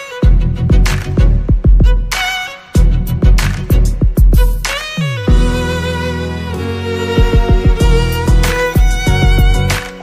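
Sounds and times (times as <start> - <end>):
background music with held notes: 0.0 - 10.0
single beat: 0.2 - 6.1, 7.2 - 10.0.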